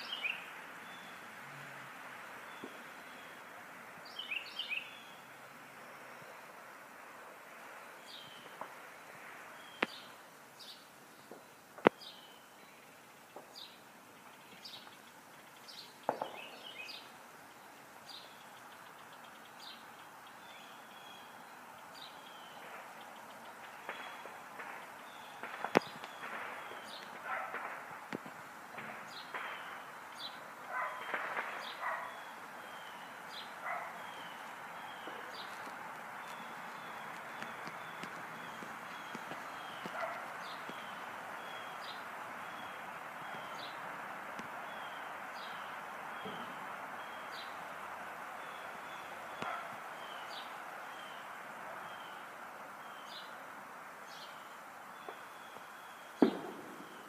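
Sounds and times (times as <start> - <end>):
songbird high chirping: 0.0 - 6.6, 7.6 - 53.4, 54.0 - 57.0.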